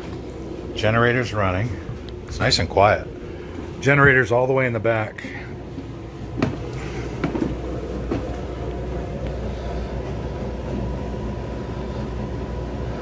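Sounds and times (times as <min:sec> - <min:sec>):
diesel generator humming: 0:00.0 - 0:13.0.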